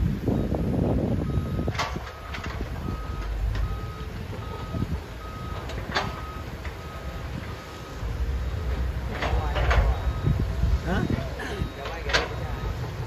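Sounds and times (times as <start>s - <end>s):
diesel engines running: 0.0s - 13.0s
backup alarm beeping: 0.1s - 13.0s.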